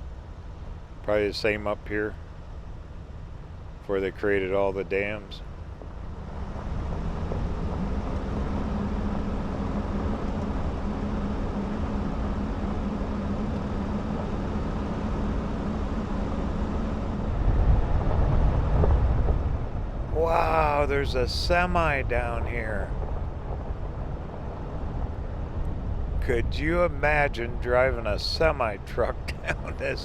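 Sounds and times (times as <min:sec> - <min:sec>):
vehicle engine drone: 0:00.0 - 0:30.0
tyre and road rumble: 0:05.4 - 0:30.0.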